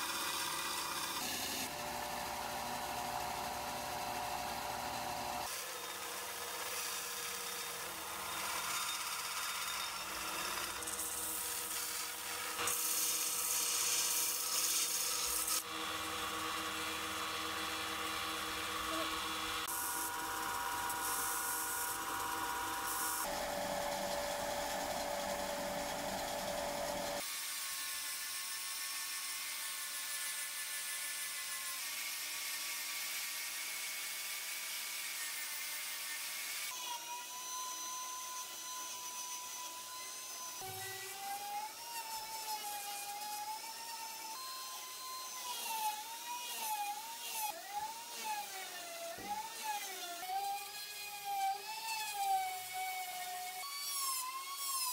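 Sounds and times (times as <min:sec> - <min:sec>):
electric tool motor whining: 0:00.0 - 0:27.3, 0:36.6 - 0:54.9.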